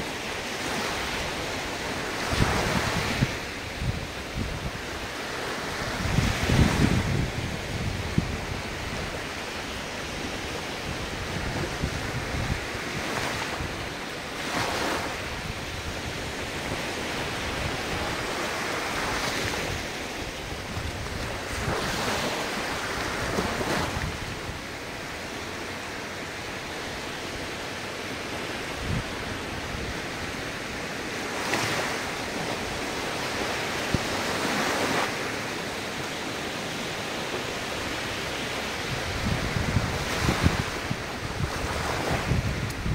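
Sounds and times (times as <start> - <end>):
ocean waves breaking: 0.0 - 42.9.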